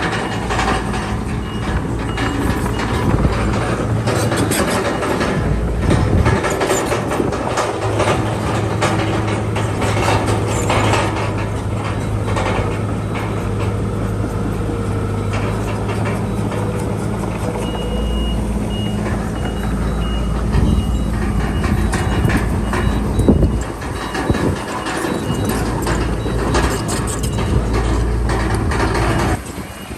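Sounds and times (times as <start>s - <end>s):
bulldozer engine under load: 0.0s - 29.9s
reversing alarm beeping: 0.0s - 29.9s
track clatter: 0.0s - 29.9s.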